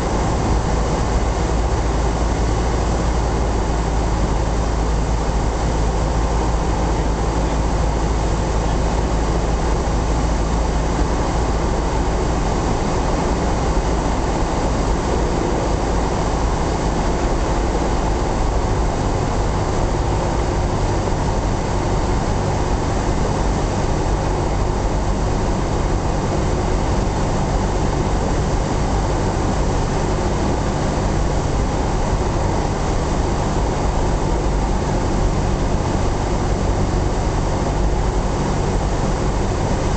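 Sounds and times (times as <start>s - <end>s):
propeller aircraft engine drone: 0.0s - 39.9s
rushing airflow: 0.0s - 39.9s.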